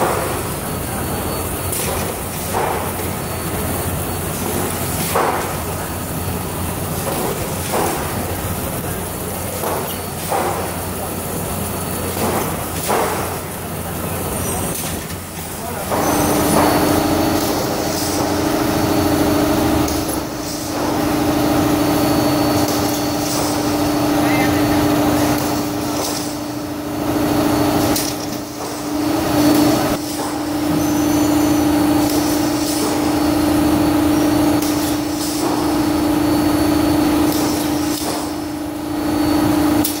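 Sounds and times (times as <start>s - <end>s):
conveyor machine hum: 0.0s - 40.0s.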